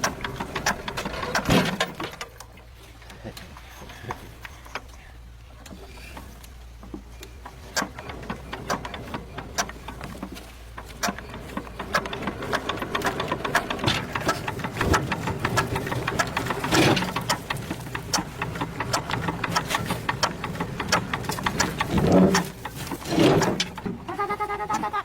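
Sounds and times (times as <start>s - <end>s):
low engine hum: 0.0s - 25.0s
mechanical clattering and knocking: 0.0s - 25.0s.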